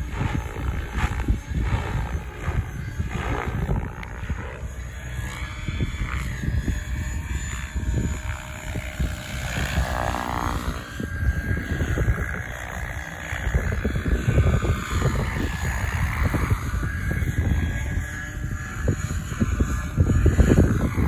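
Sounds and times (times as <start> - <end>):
electric motor whining: 0.0 - 21.0
helicopter rotors whooshing: 0.0 - 21.0
wind rumble on microphone: 0.0 - 21.0.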